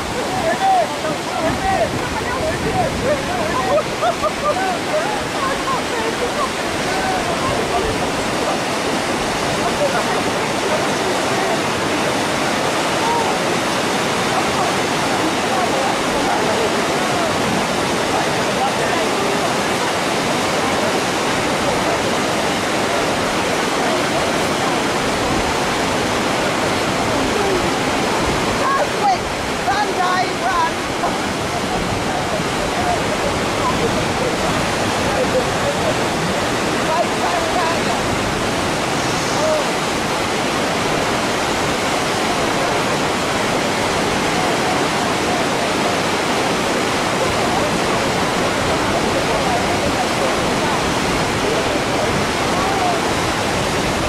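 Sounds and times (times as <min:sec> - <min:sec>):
rushing white water: 0:00.0 - 0:54.0.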